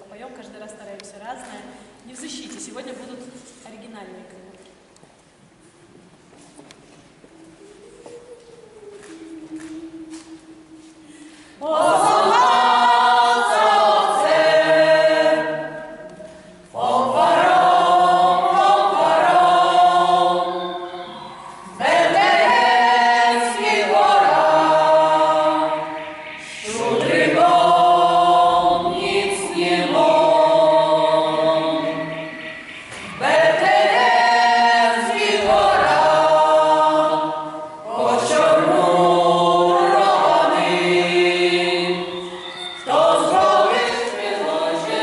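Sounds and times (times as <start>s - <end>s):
choir singing a cappella: 8.6s - 45.0s.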